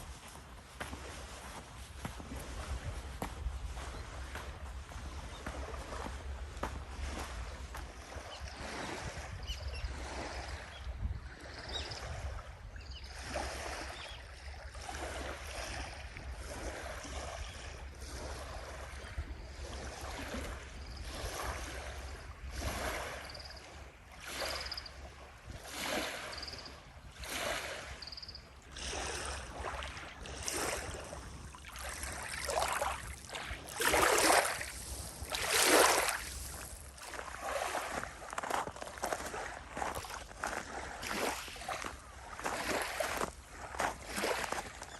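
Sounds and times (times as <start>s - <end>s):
wind rumble on microphone: 0.0s - 23.9s, 28.7s - 42.5s.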